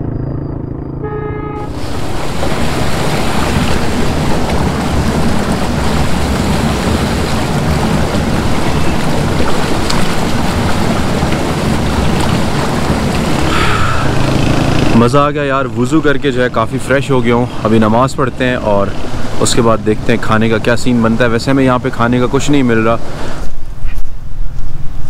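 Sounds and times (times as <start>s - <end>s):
running water rushing: 1.6s - 23.5s.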